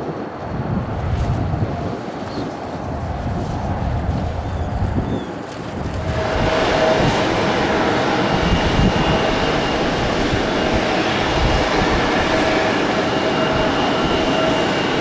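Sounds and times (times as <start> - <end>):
jet engines passing close: 0.0 - 15.0.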